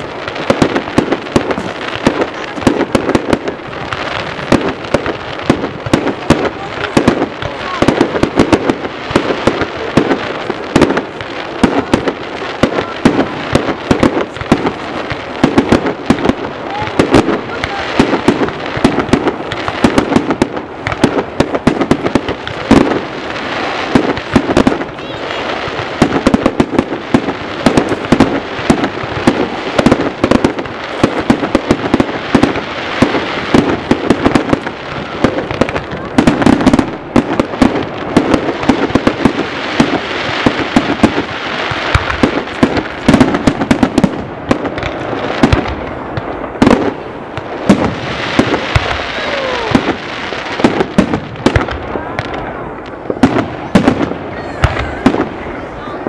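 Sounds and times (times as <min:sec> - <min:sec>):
fireworks bangs and crackles: 0:00.0 - 0:56.0
whistling fireworks: 0:00.0 - 0:56.0.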